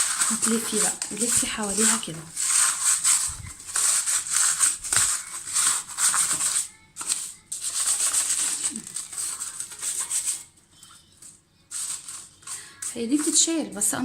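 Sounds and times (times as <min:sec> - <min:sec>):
brush scrubbing plastic mesh filter: 0:00.0 - 0:10.9, 0:11.7 - 0:13.6.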